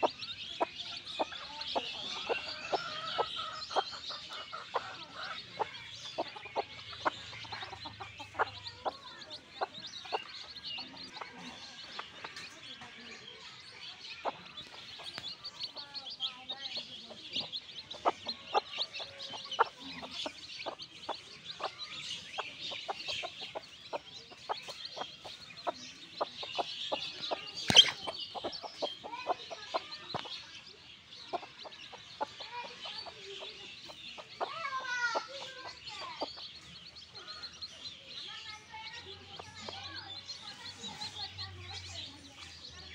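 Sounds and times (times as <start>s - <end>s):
chickens clucking: 0.0s - 42.9s
chicks peeping: 0.0s - 42.9s.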